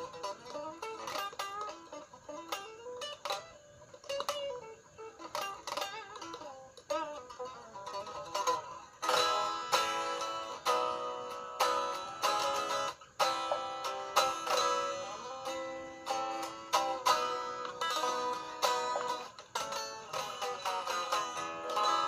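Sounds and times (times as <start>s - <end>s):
electric guitar playing: 0.0s - 22.0s.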